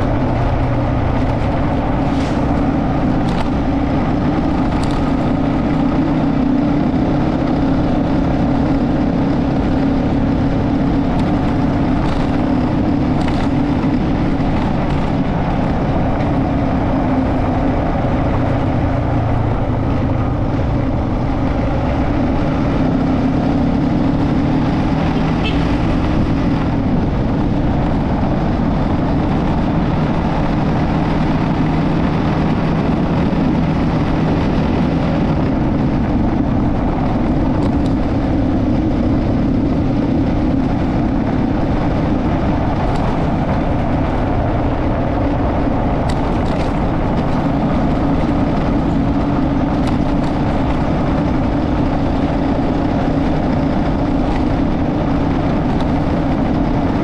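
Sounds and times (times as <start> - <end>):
motorcycle engine and road rumble: 0.0 - 57.0.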